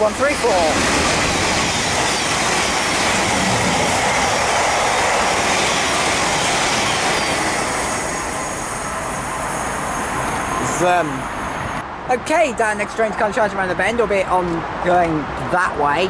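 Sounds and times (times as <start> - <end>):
train wheel and rail noise: 0.0 - 15.3.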